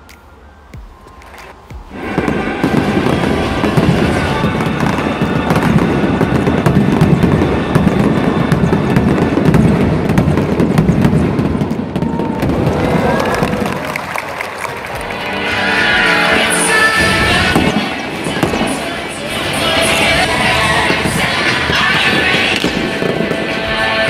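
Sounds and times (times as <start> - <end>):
music playing: 0.0 - 9.7, 12.7 - 24.0
fireworks bursts rumbling: 0.0 - 24.0
fireworks crackling: 0.0 - 24.0.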